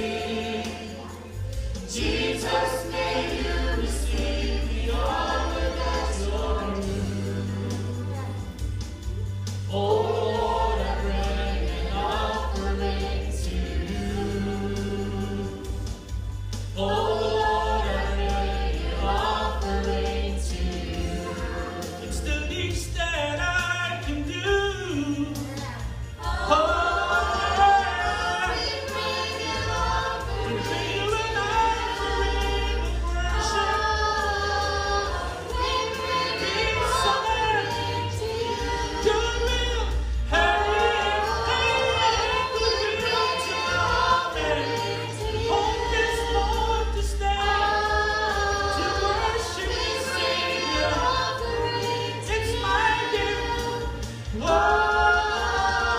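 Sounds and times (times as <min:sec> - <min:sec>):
church choir singing in harmony: 0:00.0 - 0:55.9
low bass accompaniment: 0:00.0 - 0:55.9.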